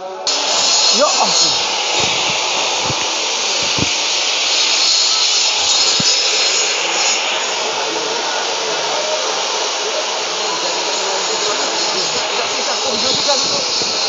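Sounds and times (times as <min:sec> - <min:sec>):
electric saw running: 0:00.2 - 0:14.0.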